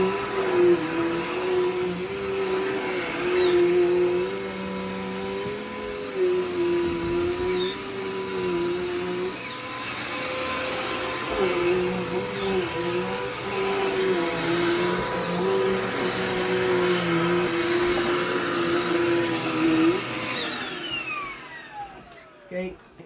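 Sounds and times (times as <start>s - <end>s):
vacuum cleaner motor whirring: 0.0s - 23.0s.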